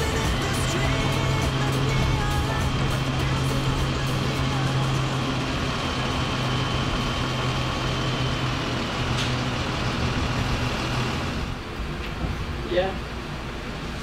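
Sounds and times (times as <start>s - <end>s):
crane diesel engine running: 0.0s - 14.0s.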